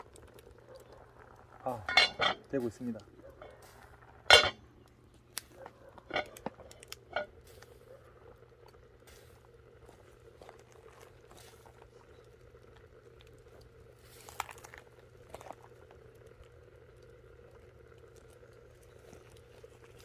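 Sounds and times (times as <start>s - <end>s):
faint bubbling: 0.0s - 20.0s
firewood fire crackling: 0.0s - 20.0s.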